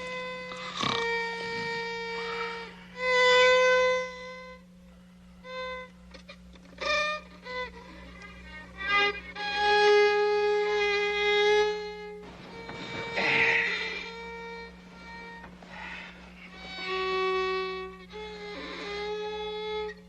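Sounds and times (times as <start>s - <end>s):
violin bowed notes: 0.0s - 20.0s.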